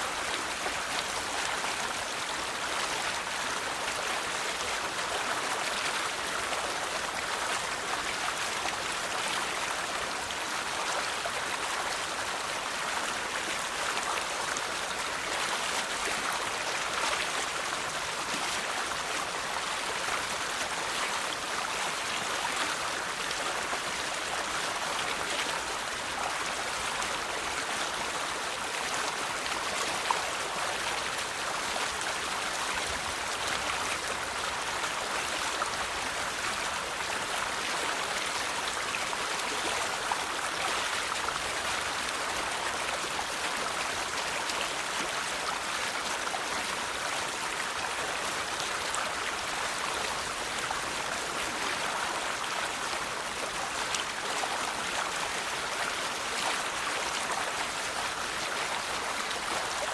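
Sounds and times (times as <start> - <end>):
river water flowing and splashing: 0.0 - 59.9.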